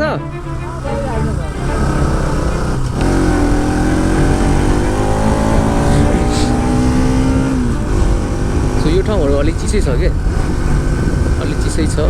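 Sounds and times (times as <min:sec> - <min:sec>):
motorcycle engine running: 0:00.0 - 0:12.0
wind rumble on microphone: 0:02.3 - 0:12.0.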